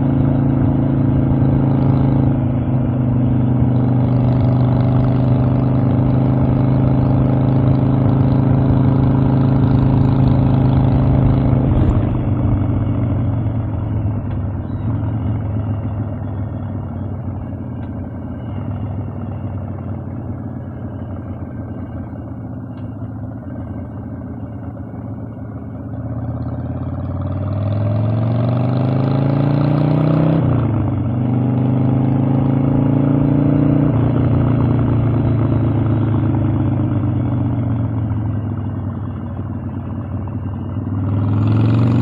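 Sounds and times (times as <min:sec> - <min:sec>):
motorcycle engine revving: 0:00.0 - 0:24.6, 0:25.9 - 0:42.0.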